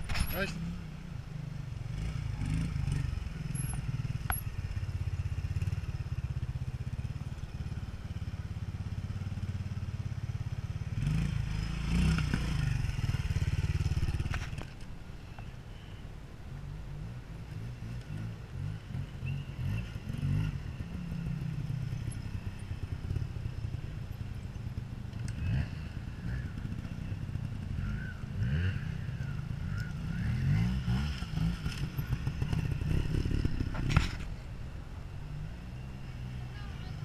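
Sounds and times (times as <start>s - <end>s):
motorcycle engine revving: 1.7s - 14.8s, 17.7s - 34.3s.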